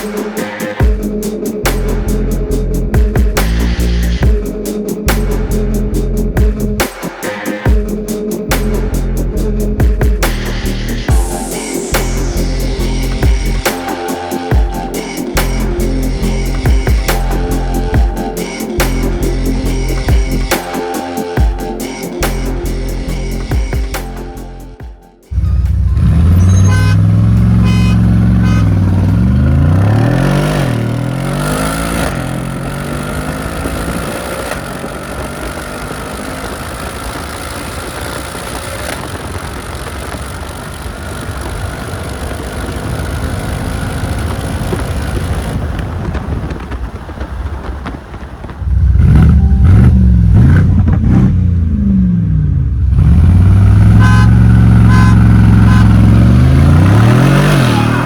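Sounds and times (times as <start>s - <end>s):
car engine revving: 0.0s - 46.6s, 48.7s - 58.0s.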